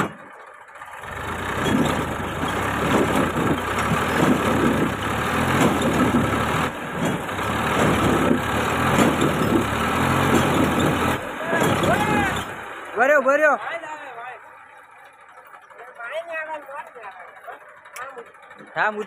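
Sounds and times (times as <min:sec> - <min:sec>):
tractor diesel engine straining: 0:00.0 - 0:19.0.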